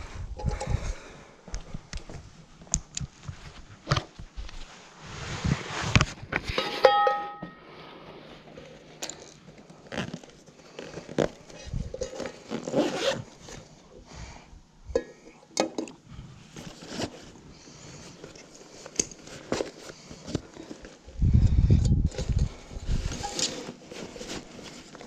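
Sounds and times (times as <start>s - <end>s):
objects rustling and scraping: 0.3s - 14.1s, 15.0s - 25.0s.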